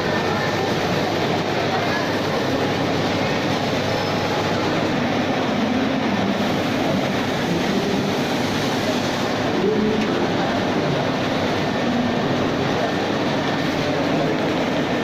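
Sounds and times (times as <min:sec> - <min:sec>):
printing machine whir and hum: 0:00.0 - 0:15.0.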